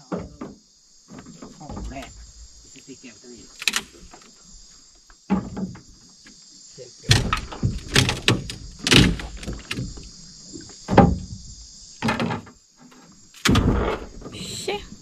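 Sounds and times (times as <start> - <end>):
knocks and thumps: 0.0 - 2.8, 5.0 - 6.4, 7.0 - 15.0
insects chorus: 0.0 - 15.0.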